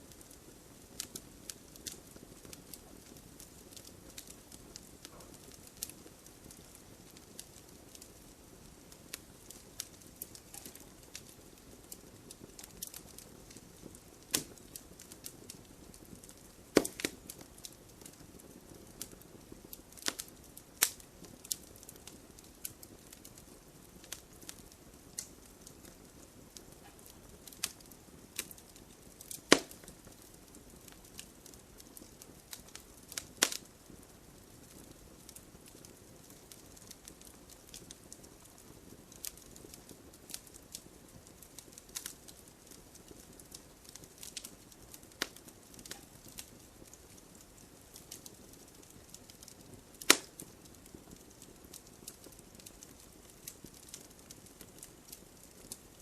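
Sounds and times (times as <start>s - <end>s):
campfire crackling: 0.0s - 56.0s
sharp fire pops: 0.1s - 39.7s, 41.5s - 55.9s.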